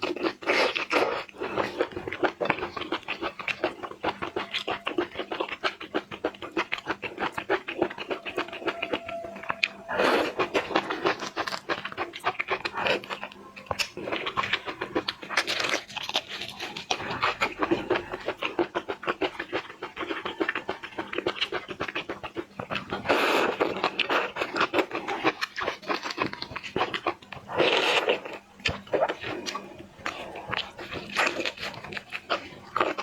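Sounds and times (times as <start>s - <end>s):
wet chewing and lip smacking: 0.0s - 33.0s.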